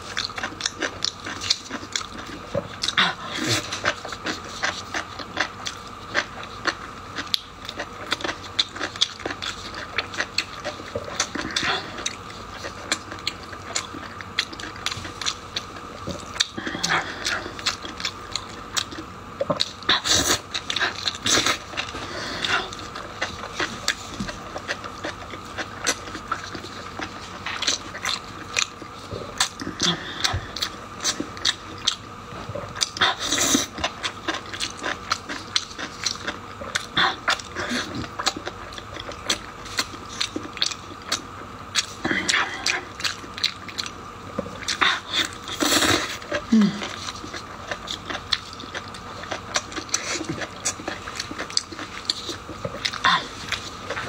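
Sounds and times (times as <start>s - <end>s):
close biting and chewing: 0.0s - 54.0s.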